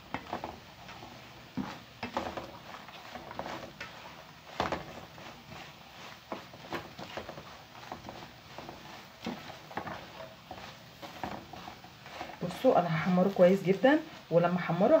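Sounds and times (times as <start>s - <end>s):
bread toasting in oil: 0.0s - 15.0s
spatula scraping a pan: 0.0s - 15.0s.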